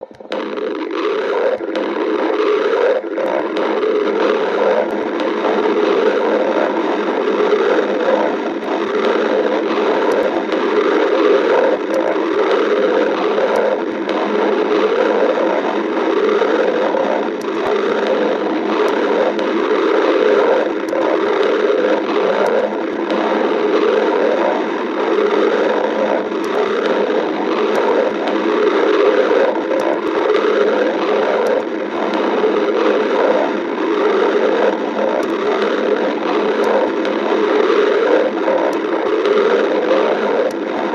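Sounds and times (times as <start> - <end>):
stomach growling: 0.0 - 40.9.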